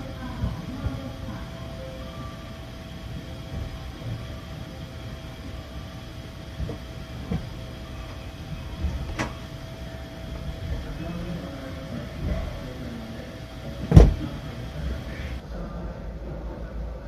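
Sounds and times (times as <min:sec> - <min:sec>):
train car hum: 0:00.0 - 0:17.0.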